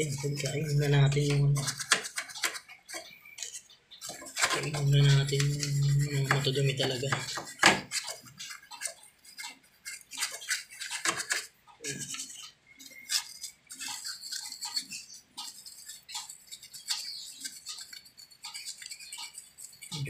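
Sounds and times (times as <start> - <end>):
stiff brush scrubbing metal: 0.0 - 20.0.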